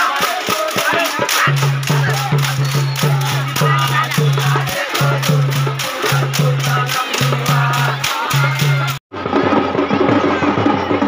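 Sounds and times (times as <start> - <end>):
crowd voices: 0.0 - 11.0
fast rhythmic percussion: 0.0 - 11.0.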